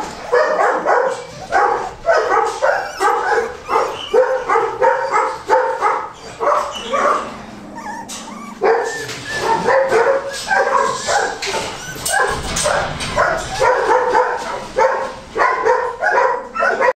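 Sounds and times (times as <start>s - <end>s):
puppies crying: 0.0s - 16.9s.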